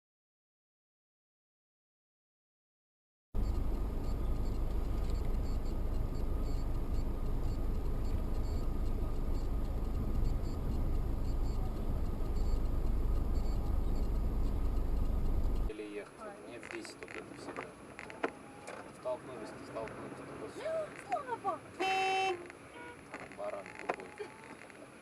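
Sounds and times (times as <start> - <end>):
car road and engine rumble: 3.4 - 25.0.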